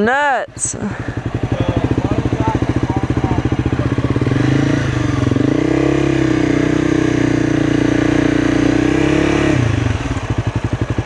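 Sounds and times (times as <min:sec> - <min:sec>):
motorcycle engine pulling away: 0:00.9 - 0:11.0.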